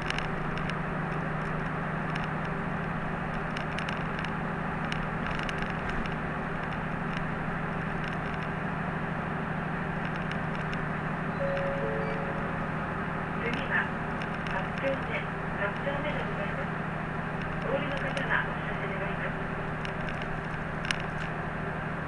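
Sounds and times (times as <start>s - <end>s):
bus engine hum: 0.0s - 22.0s
road noise: 0.0s - 22.0s.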